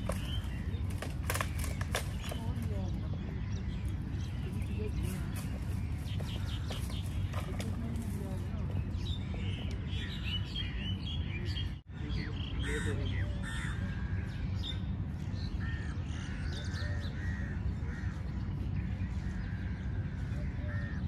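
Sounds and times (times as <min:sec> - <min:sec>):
many birds calling: 0:00.0 - 0:21.0
steady low rumble: 0:00.0 - 0:21.0.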